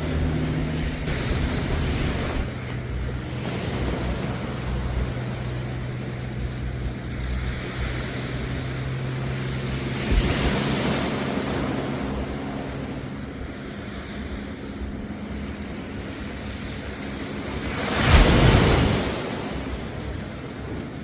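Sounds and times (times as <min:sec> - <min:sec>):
low engine hum: 0:00.0 - 0:21.0
sea waves washing onto beach: 0:00.0 - 0:21.0.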